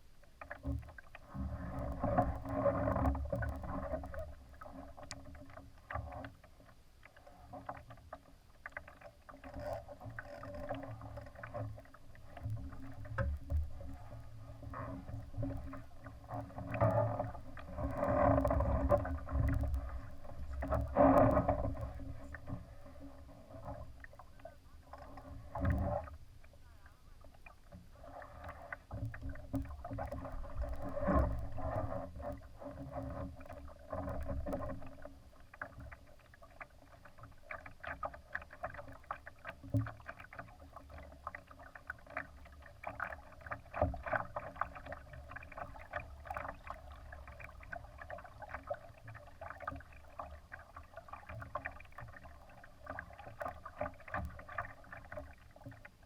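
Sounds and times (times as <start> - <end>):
water splashing against hull: 0.0 - 56.0.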